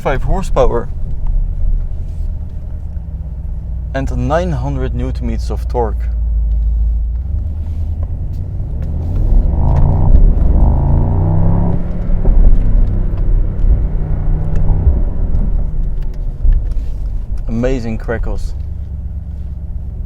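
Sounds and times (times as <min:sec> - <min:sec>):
car engine accelerating: 0:00.0 - 0:20.0
exhaust crackles: 0:00.0 - 0:20.0.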